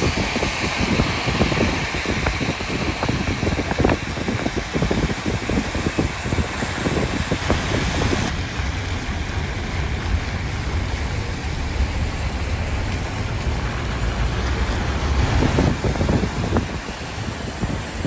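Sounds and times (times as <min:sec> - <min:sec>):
tyres hissing on wet road: 0:00.0 - 0:18.0
wind buffeting: 0:00.0 - 0:18.0.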